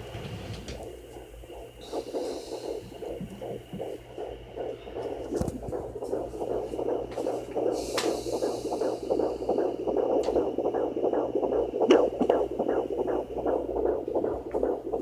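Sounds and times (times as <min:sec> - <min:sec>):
electronic hum: 0:00.0 - 0:15.0
fetal heartbeat on doppler: 0:00.0 - 0:15.0.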